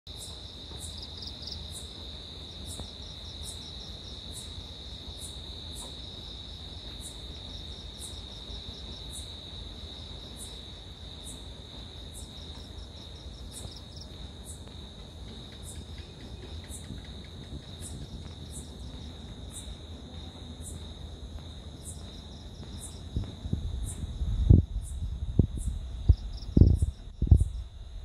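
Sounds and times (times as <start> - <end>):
insect chirps: 0.1 - 28.0.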